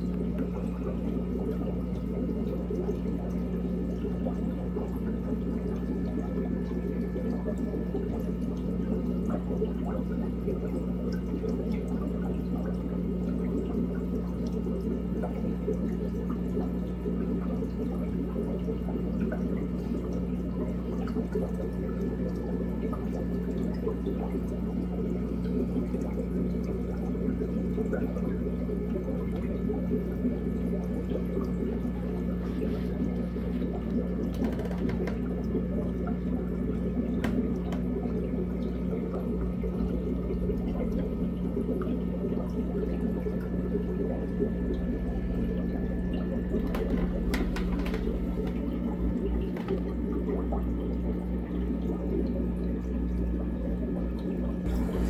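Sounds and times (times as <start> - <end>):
aquarium water bubbling: 0.0 - 55.0
low hum of filter: 0.0 - 55.0.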